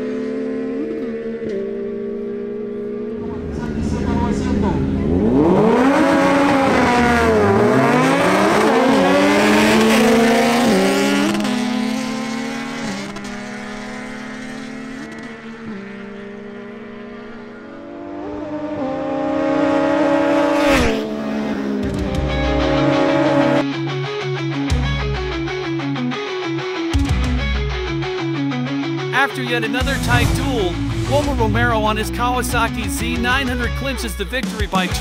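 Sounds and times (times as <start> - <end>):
motorcycle engines accelerating: 0.0 - 23.6, 29.2 - 35.0.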